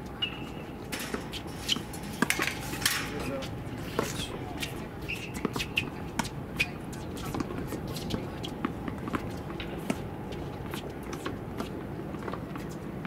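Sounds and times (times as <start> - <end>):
tennis balls struck by rackets: 0.2 - 12.8.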